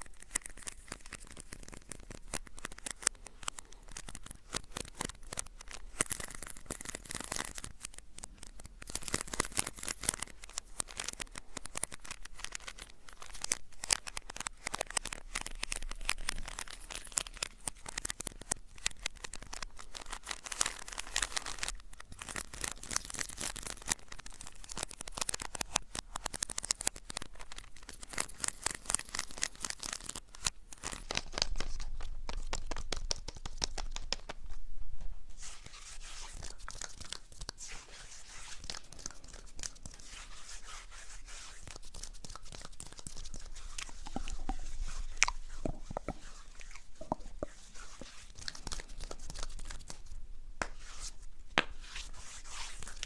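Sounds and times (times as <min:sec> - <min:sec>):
crinkling and scratching: 0:00.0 - 0:53.0.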